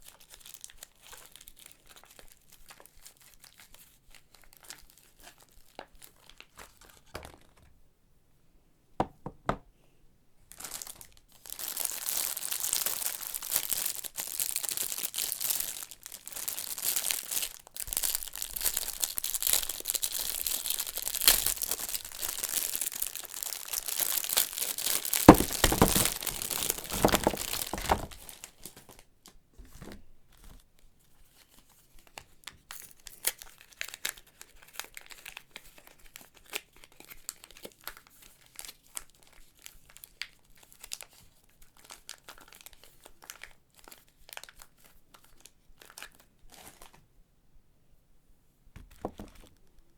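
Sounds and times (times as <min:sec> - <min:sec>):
plastic wrapping crinkling and tearing: 0:00.0 - 0:07.6, 0:10.5 - 0:29.4, 0:31.3 - 0:47.0.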